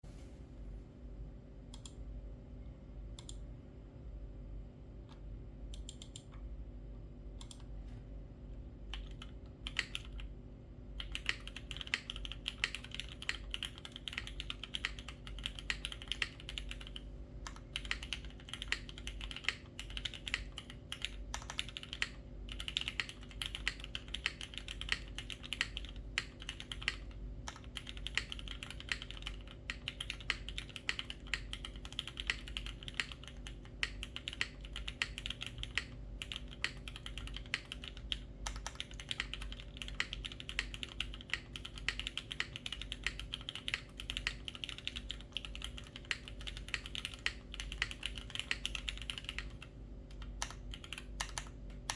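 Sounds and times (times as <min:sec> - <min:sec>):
mechanical keyboard typing: 0:08.9 - 0:10.4, 0:11.0 - 0:51.9.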